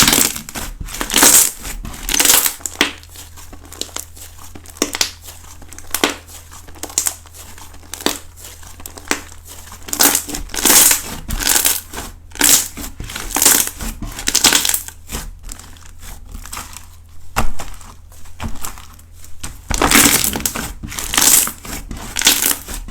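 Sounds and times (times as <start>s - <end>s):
slime squishing and crunching: 0.0s - 22.9s.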